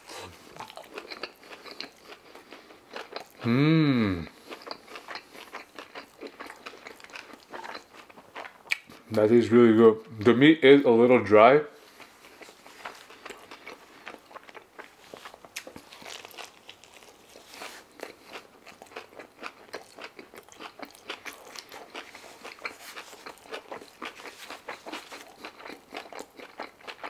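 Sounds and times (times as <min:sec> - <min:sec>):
man chewing food: 0:00.0 - 0:09.2, 0:11.8 - 0:27.0.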